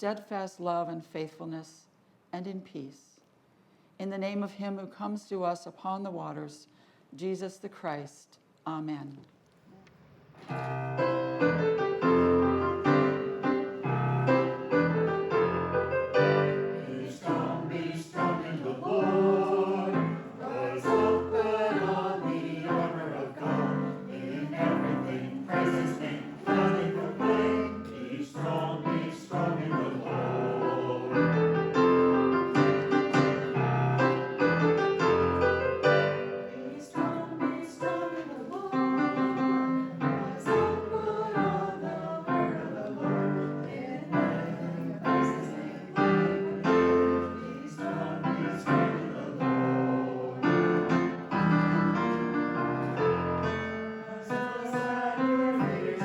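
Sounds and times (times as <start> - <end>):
people singing a hymn: 10.5 - 56.0
piano music: 10.5 - 56.0.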